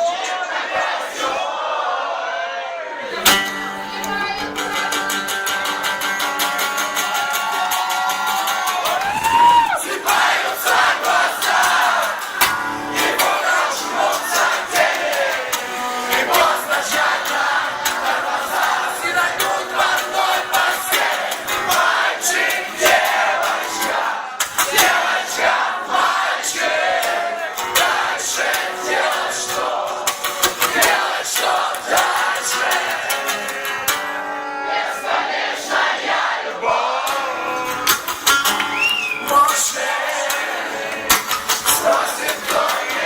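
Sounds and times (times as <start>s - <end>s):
crowd voices: 0.0s - 43.0s
person singing: 3.1s - 35.2s, 36.6s - 43.0s.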